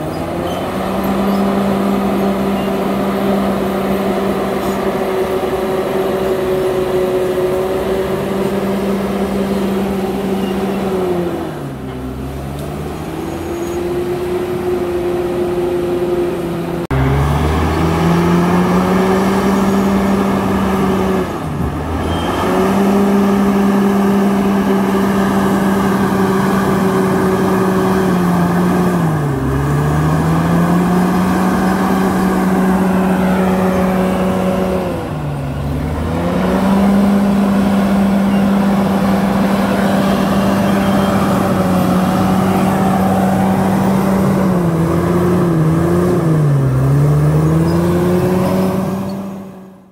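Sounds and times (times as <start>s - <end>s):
dozer blade pushing soil: 0.0s - 49.5s
bulldozer diesel engine under load: 0.0s - 49.9s.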